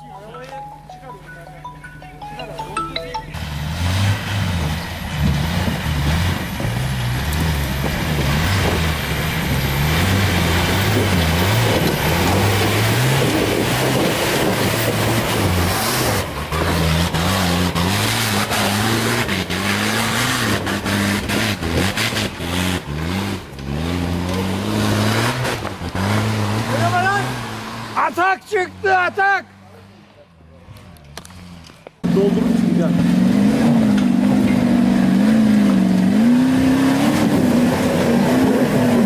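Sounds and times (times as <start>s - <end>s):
truck engine revving under load: 3.4s - 39.0s.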